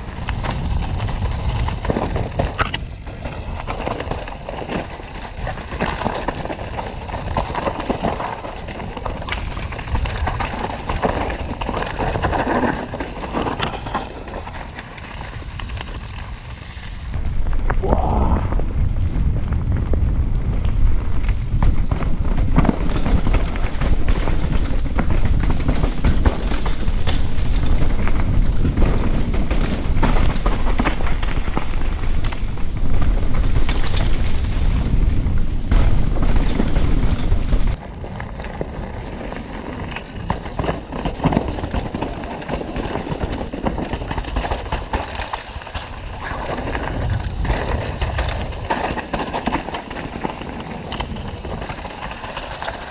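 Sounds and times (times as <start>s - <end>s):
mountain bike rattling: 0.0s - 17.8s, 18.6s - 52.9s
wind buffeting microphone: 0.0s - 45.0s, 45.6s - 52.9s.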